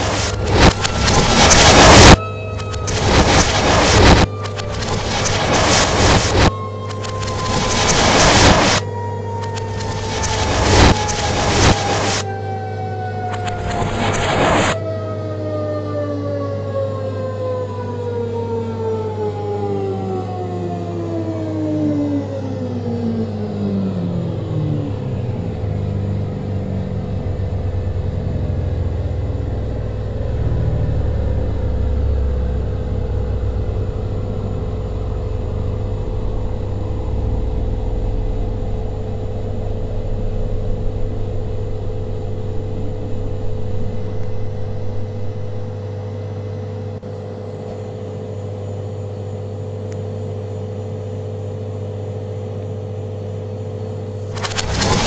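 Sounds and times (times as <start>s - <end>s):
reversed washing machine motor whine: 0.0s - 55.0s.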